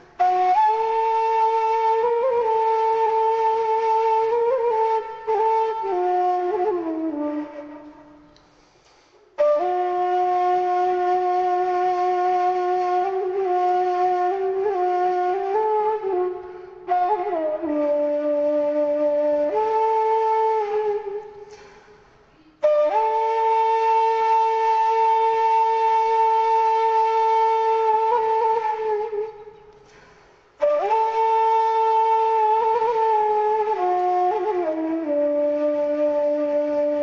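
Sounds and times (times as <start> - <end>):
flute-like wind instrument notes: 0.0 - 8.5, 9.2 - 21.6, 22.4 - 29.9, 30.6 - 37.0.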